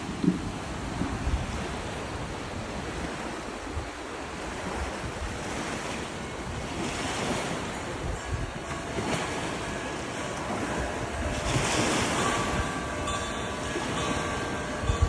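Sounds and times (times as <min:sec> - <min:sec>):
sea waves washing onto beach: 0:00.0 - 0:15.0
wind buffeting microphone: 0:00.0 - 0:15.0.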